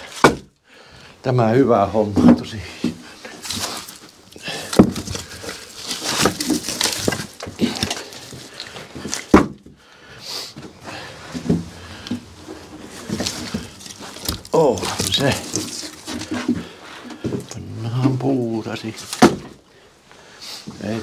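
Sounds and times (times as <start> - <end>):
firewood logs knocking together: 0.0 - 0.5, 2.1 - 9.8, 10.6 - 19.6.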